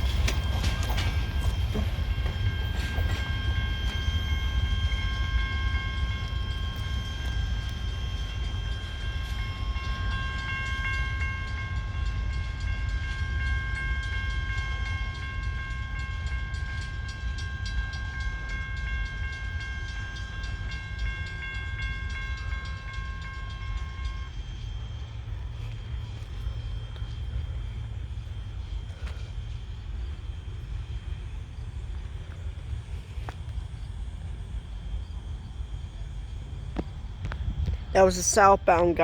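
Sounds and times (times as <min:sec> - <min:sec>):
rapid clicking from rails: 0:00.0 - 0:34.6
train cars rumbling: 0:00.0 - 0:39.0.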